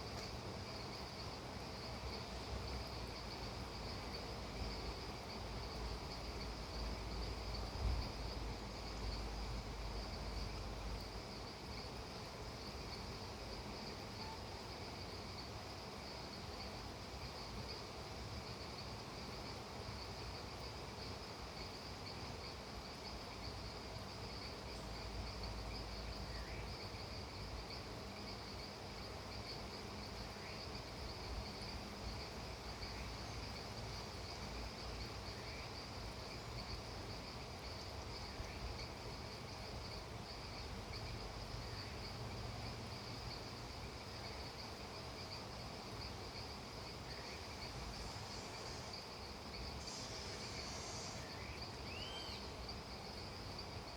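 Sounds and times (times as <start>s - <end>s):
crickets and insects trilling: 0.0s - 53.9s
low even hiss: 0.0s - 53.9s.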